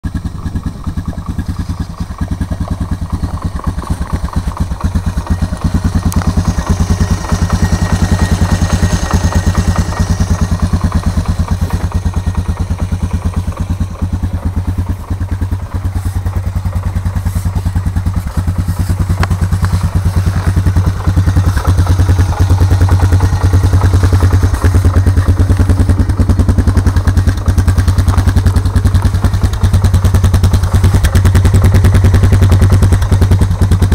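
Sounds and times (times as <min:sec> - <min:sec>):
atv engine idling with knock: 0:00.0 - 0:33.9.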